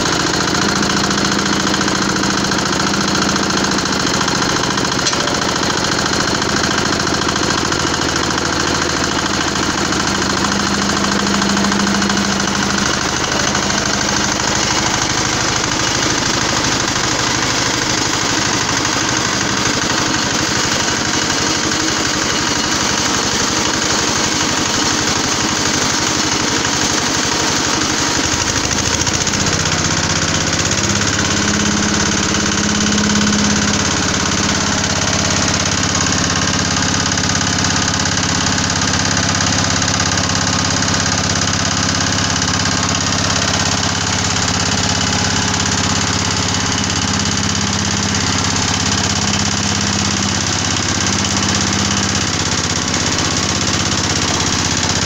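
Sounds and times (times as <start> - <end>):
screw press machine running: 0.0 - 55.0.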